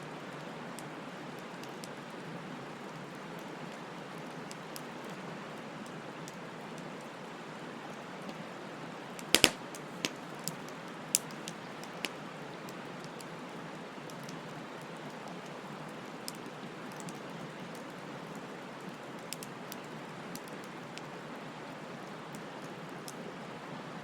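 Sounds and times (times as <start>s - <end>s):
bonfire hissing and crackling: 0.1s - 24.0s.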